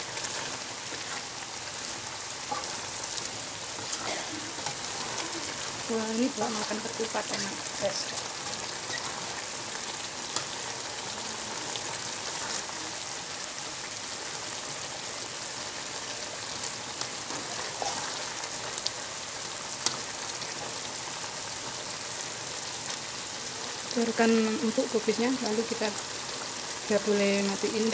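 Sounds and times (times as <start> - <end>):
food hissing in a wok: 0.0 - 27.9.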